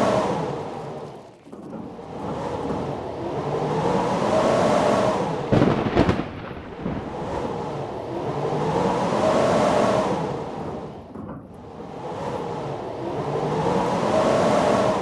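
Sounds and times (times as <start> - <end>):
howling blizzard wind: 0.0 - 15.0.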